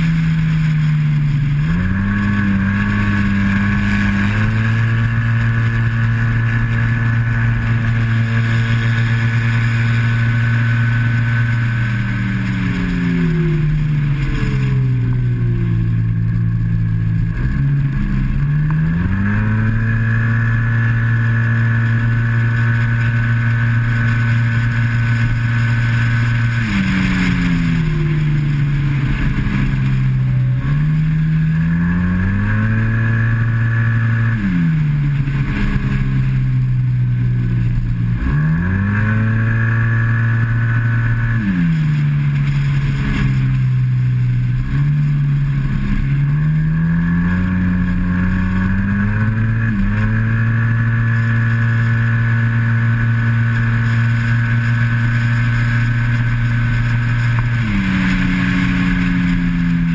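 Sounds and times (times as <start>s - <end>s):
scooter engine at speed: 0.0s - 59.9s
wind rushing over microphone: 0.0s - 59.9s.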